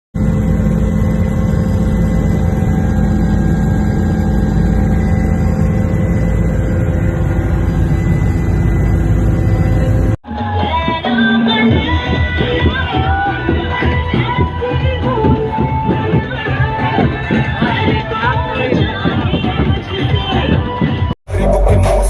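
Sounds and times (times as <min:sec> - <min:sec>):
engine-like rumble: 0:00.2 - 0:22.0
held hum tones: 0:00.2 - 0:22.0.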